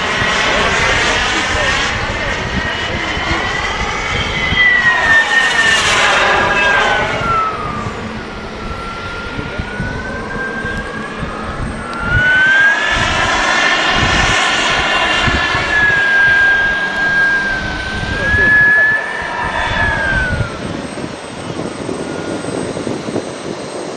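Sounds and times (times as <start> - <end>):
model jet turbine whining: 0.0 - 23.9.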